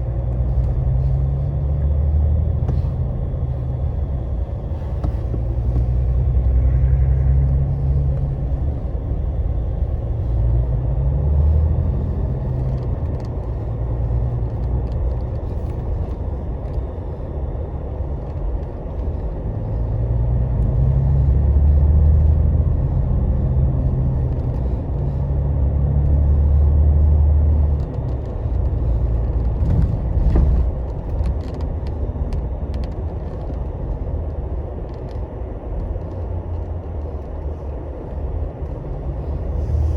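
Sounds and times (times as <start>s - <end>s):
bus diesel engine: 0.0s - 39.9s
road rumble: 0.0s - 39.9s.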